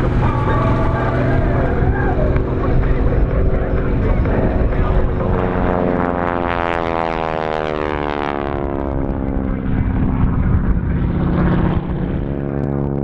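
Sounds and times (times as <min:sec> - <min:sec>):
propeller aircraft engine passing: 0:00.0 - 0:13.0.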